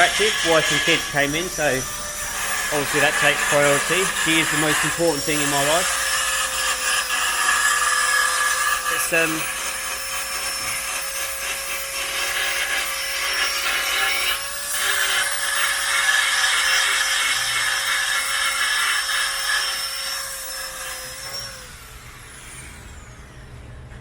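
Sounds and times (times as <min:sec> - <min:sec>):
electric grinder on metal: 0:00.0 - 0:23.7.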